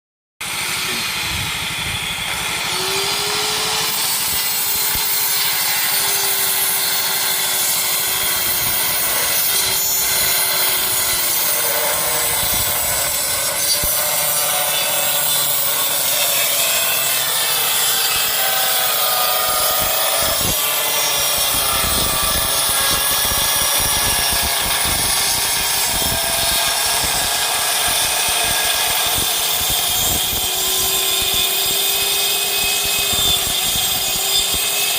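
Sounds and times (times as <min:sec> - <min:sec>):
circular saw cutting plywood: 0:00.4 - 0:34.9.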